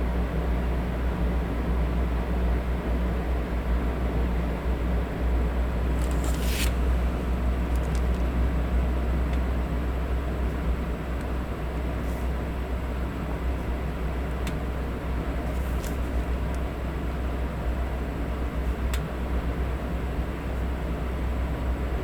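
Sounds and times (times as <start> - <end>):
electric fan running: 2.1 - 22.0.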